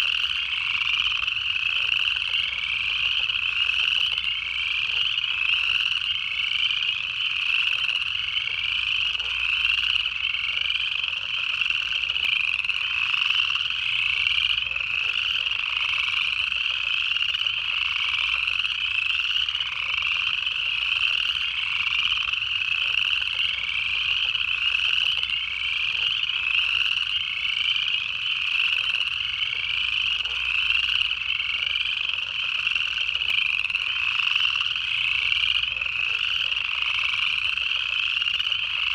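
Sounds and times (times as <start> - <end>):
frogs chorus trilling: 0.0 - 38.9.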